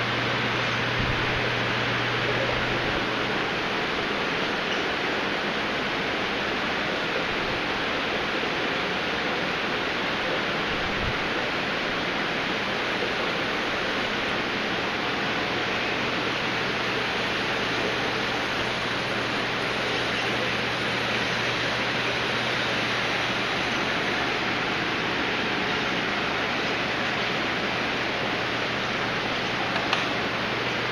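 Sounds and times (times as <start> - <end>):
rushing water from filtration: 0.0 - 30.9.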